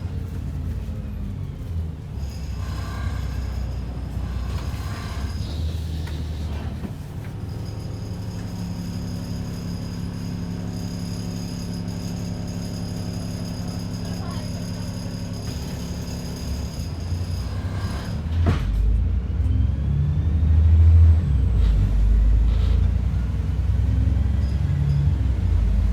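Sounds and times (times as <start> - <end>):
bus diesel engine rumbling: 0.0 - 25.9.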